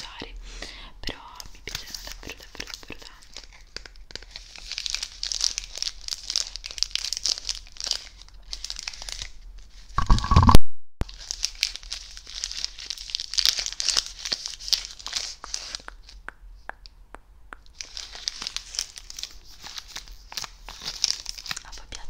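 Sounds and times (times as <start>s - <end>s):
plastic wrapper crinkling: 1.4s - 16.2s, 17.7s - 22.0s.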